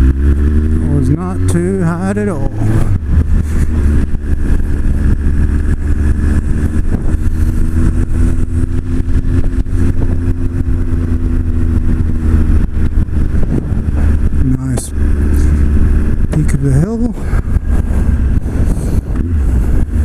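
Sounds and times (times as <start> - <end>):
motorcycle engine cruising: 0.0 - 20.0
wind buffeting microphone: 0.0 - 20.0.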